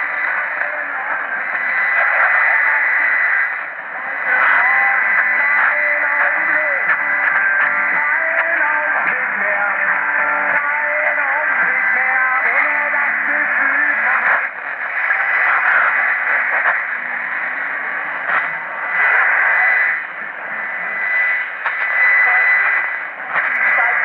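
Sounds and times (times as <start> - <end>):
shortwave radio broadcast: 0.0 - 24.0.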